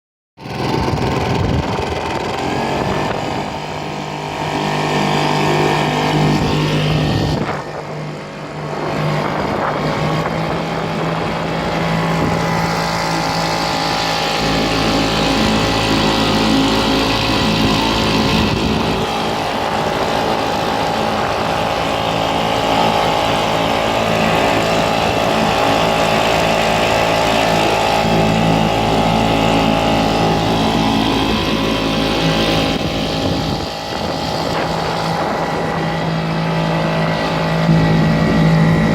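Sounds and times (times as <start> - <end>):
engine running: 0.4 - 38.9.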